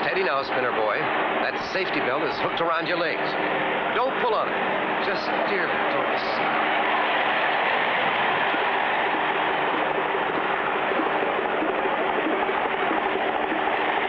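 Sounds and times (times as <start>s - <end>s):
crowd roaring: 0.0s - 14.0s
race car and plane engines humming: 0.0s - 14.0s.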